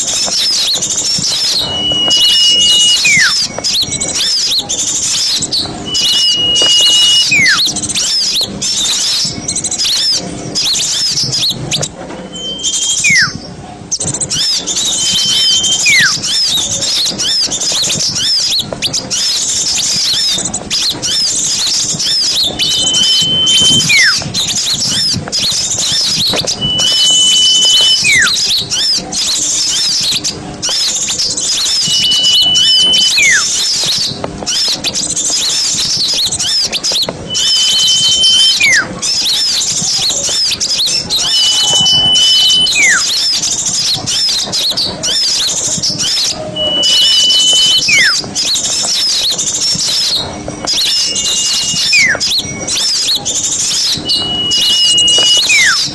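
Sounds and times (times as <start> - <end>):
small birds chattering: 0.0 - 55.9
whistle sliding downward: 0.3 - 10.2, 12.3 - 13.4, 14.3 - 20.2, 20.8 - 29.0, 30.8 - 34.6, 35.4 - 55.9.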